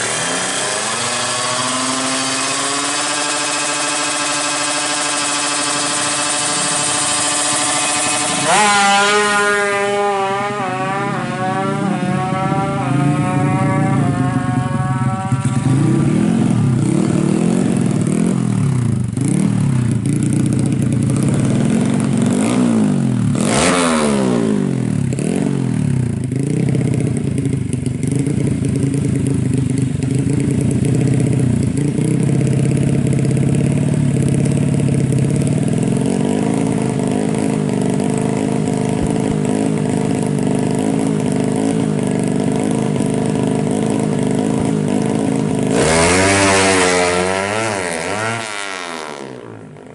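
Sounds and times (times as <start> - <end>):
motorcycle engine running: 0.0 - 49.9
motorcycles passing by: 0.0 - 49.9.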